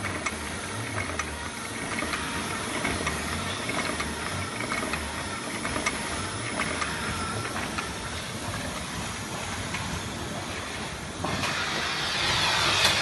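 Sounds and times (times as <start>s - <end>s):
mask machine hiss and clatter: 0.0s - 13.0s
rhythmic low hum: 0.0s - 13.0s.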